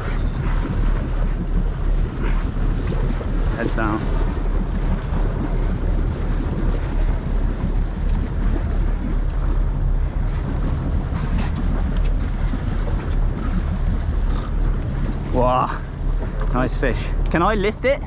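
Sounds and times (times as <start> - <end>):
boat engine hum: 0.0 - 18.0
water sloshing: 0.0 - 18.0
wind buffeting microphone: 0.0 - 18.0.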